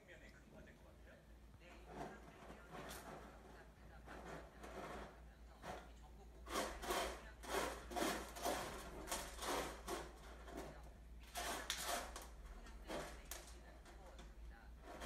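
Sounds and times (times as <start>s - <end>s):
cat scratching litter: 1.6s - 15.0s.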